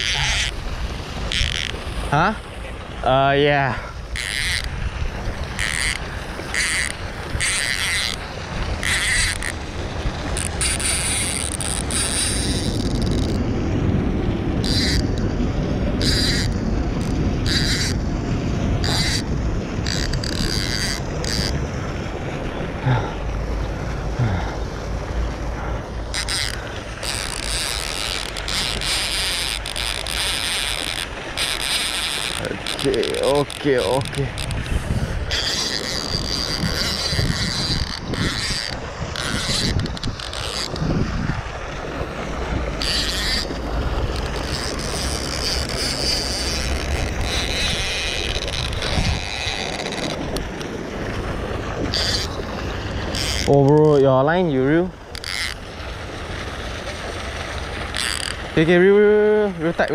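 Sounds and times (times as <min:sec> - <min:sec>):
fishing reel clicking and whirring: 0:00.0 - 0:02.5, 0:03.1 - 0:13.4, 0:14.5 - 0:15.4, 0:16.0 - 0:18.0, 0:18.8 - 0:21.7, 0:26.0 - 0:41.5, 0:42.2 - 0:59.9
wind buffeting microphone: 0:00.0 - 0:31.6, 0:32.2 - 0:59.9.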